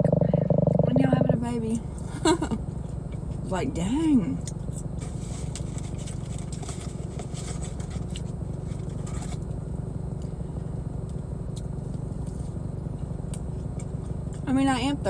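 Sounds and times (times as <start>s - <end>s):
car engine and air conditioning rumble: 0.0s - 15.0s.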